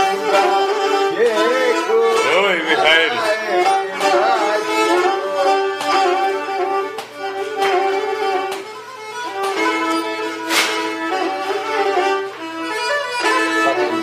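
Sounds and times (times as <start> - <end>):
bowed lyra melody: 0.0 - 14.0.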